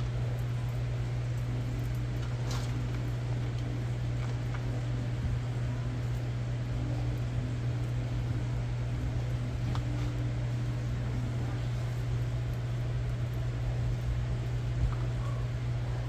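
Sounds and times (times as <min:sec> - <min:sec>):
low mechanical hum with hiss: 0:00.0 - 0:16.0.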